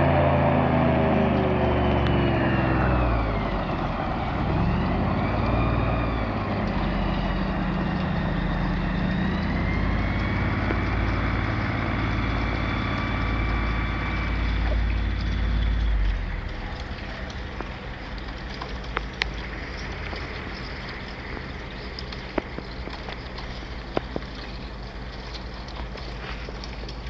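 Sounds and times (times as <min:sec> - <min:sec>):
airboat engine and propeller: 0:00.0 - 0:27.0
breaking through thin ice: 0:00.0 - 0:27.0.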